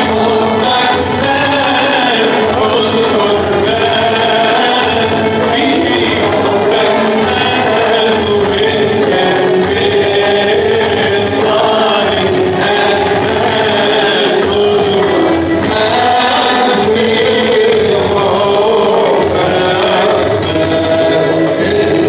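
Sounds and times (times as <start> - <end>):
jingling beat: 0.0 - 22.0
voices singing a hymn: 0.0 - 22.0.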